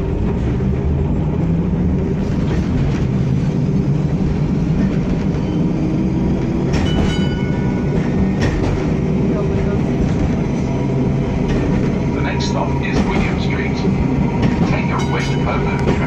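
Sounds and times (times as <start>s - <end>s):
tram wheels and motors rumbling: 0.0s - 16.0s.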